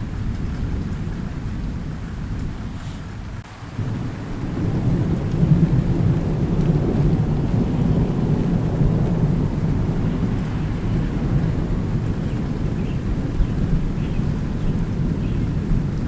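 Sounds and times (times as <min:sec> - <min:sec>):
low rolling thunder: 0:00.0 - 0:16.0
rain falling: 0:00.0 - 0:16.0.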